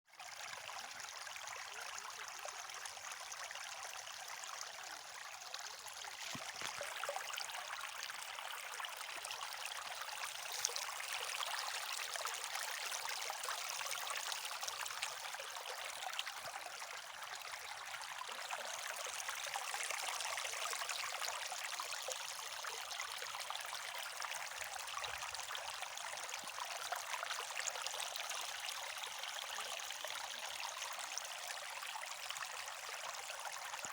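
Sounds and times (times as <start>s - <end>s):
stream trickling over stones: 0.1s - 33.9s.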